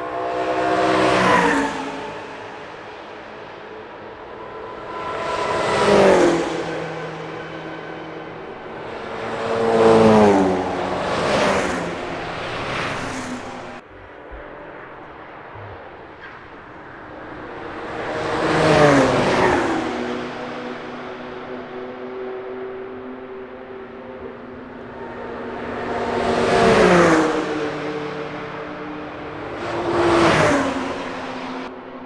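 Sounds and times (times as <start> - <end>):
cars passing at speed: 0.0 - 32.0.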